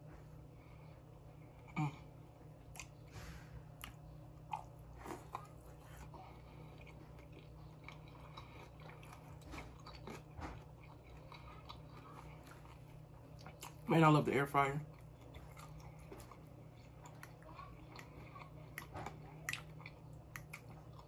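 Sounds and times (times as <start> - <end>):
man chewing food: 0.0 - 13.9, 14.8 - 21.0.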